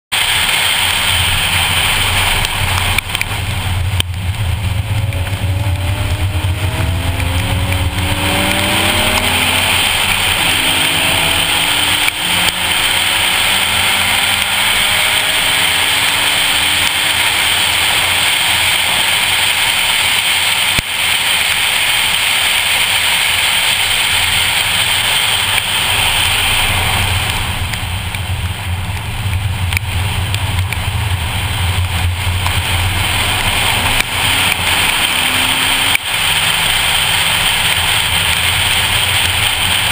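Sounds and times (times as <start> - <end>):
car engine accelerating: 0.1 - 39.9
tyres hissing on wet track: 0.1 - 39.9.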